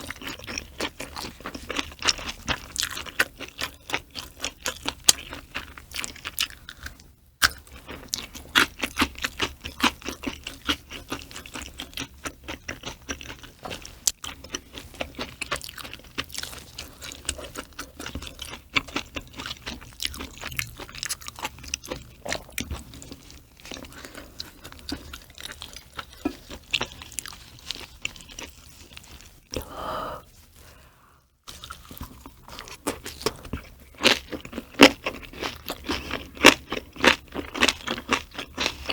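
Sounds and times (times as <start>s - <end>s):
wet crunchy chewing: 0.0s - 29.8s, 31.5s - 38.9s.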